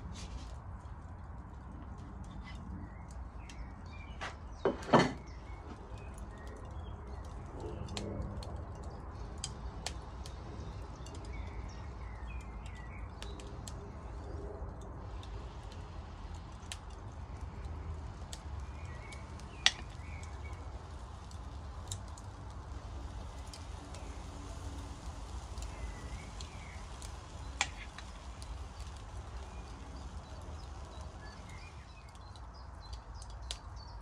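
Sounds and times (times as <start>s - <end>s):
sharp crackles: 5.2s - 34.0s.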